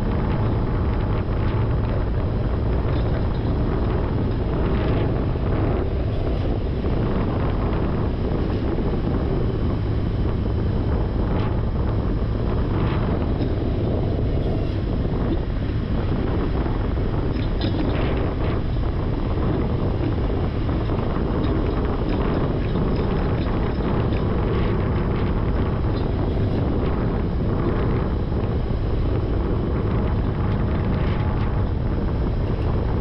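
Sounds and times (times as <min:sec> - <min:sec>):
truck engine rumbling: 0:00.0 - 0:33.0
wind buffeting microphone: 0:00.0 - 0:33.0.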